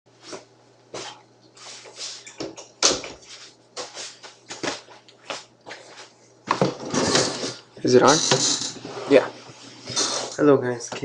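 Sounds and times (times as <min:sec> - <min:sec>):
low electrical hum: 0:00.1 - 0:11.0.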